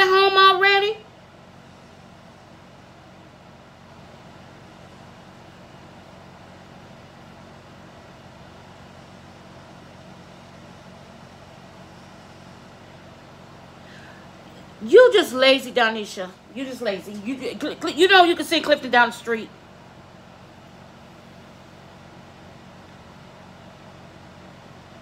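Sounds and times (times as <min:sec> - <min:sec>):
low hum with faint hiss: 0:00.0 - 0:25.0.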